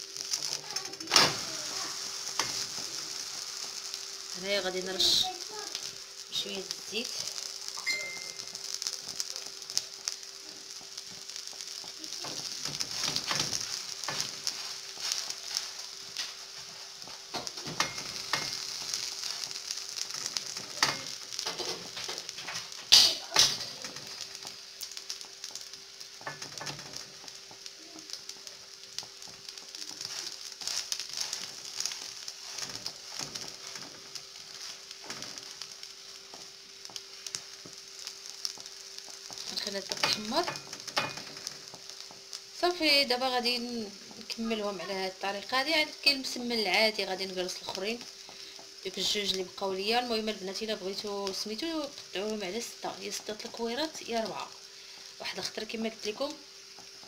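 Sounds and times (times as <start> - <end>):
oil sizzling in a pan: 0.0 - 57.0.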